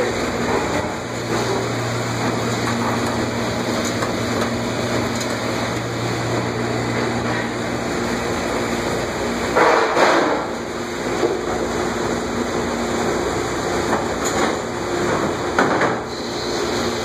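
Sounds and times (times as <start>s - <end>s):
motor and pump hum: 0.0s - 17.0s.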